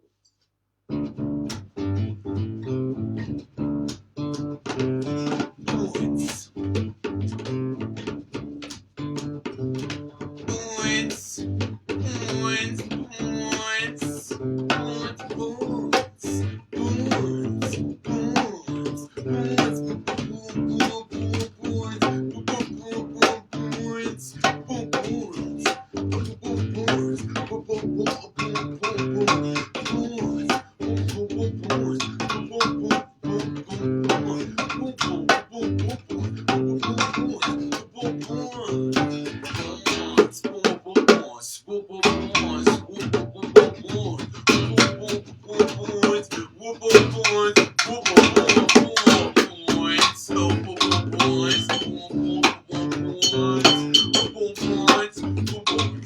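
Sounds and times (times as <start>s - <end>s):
bass guitar: 0.9s - 40.5s, 42.0s - 56.0s
guitar: 0.9s - 56.0s.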